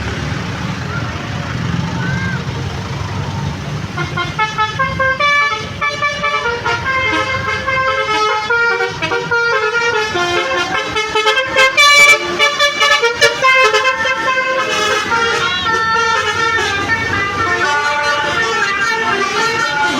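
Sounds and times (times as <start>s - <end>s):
multi-tone bus horn melody: 3.8s - 19.9s.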